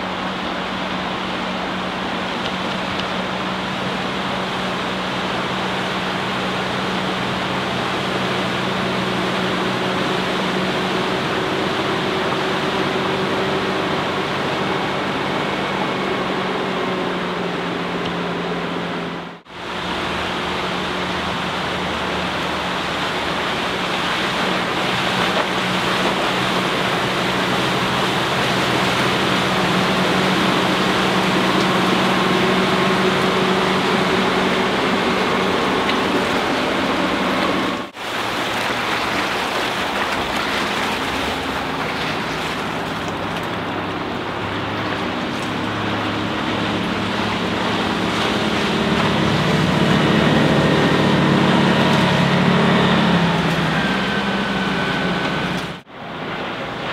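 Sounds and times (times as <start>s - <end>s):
boat engine drone: 0.0s - 56.9s
rush of wake: 0.0s - 56.9s.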